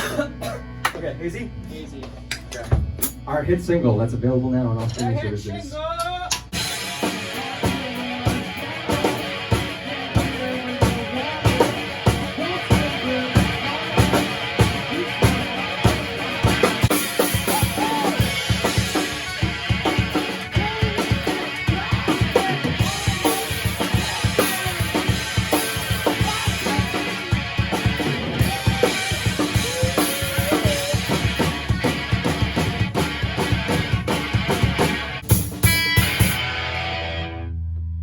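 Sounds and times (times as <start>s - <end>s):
drum kit beat: 0.0s - 1.3s, 6.0s - 37.0s
rock band music: 0.0s - 5.6s, 6.3s - 37.6s.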